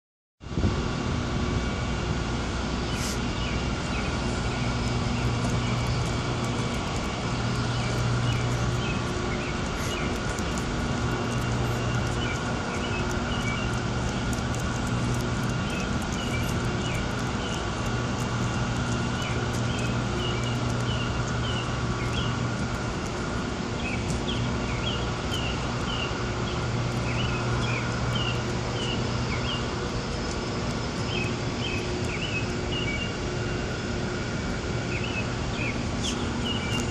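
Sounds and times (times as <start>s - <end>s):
air-conditioning units: 0.4s - 36.9s
distant traffic: 1.2s - 36.9s.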